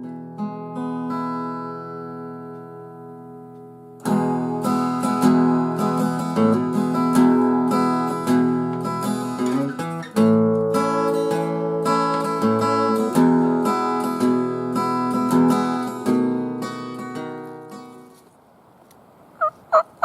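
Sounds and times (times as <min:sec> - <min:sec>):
acoustic guitar strummed chords: 0:00.0 - 0:18.3
acoustic guitar picked notes: 0:00.0 - 0:18.4.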